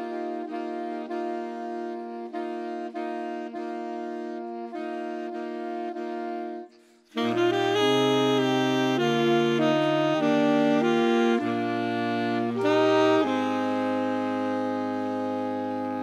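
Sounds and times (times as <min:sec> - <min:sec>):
saxophone ensemble chords: 0:00.0 - 0:16.0.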